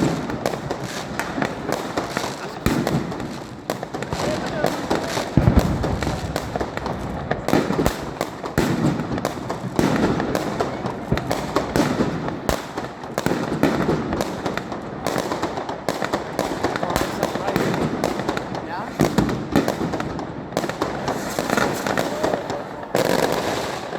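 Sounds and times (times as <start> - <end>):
firework barrage of bangs: 0.0 - 23.9.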